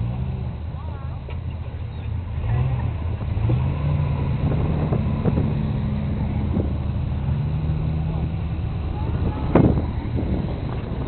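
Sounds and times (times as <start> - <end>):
car engine driving off-road: 0.0 - 11.0
faint vehicle rattles: 0.0 - 11.0.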